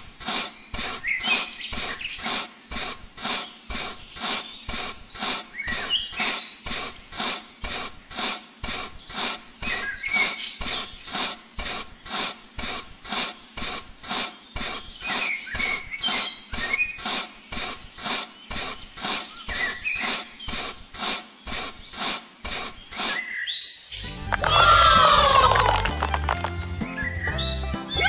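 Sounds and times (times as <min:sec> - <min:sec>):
rhythmic rasping strokes: 0:00.0 - 0:23.3.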